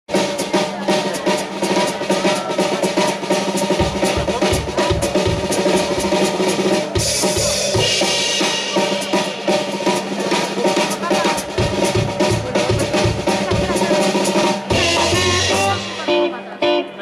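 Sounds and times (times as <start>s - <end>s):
bass drum and snare beat: 0.1s - 16.2s
live band playing: 0.1s - 17.0s.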